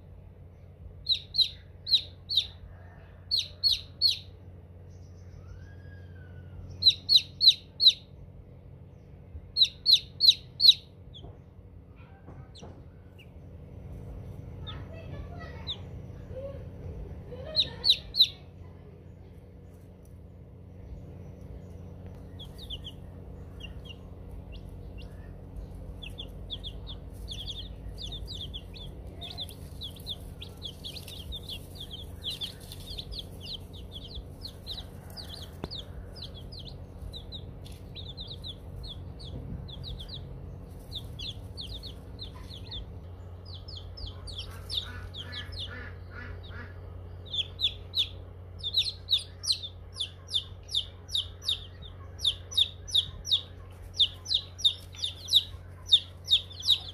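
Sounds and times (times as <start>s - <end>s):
steady low hum: 0.0s - 56.9s
chicks peeping: 0.4s - 56.9s.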